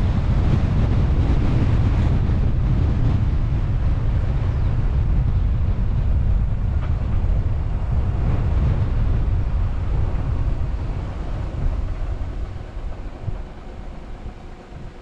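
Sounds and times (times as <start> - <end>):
car driving rumble: 0.0 - 15.0
road and wind noise: 0.0 - 15.0.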